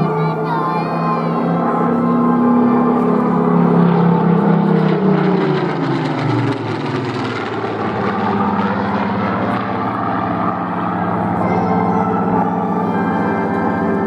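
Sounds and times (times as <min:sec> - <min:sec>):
aircraft engine passing by: 0:00.0 - 0:14.0.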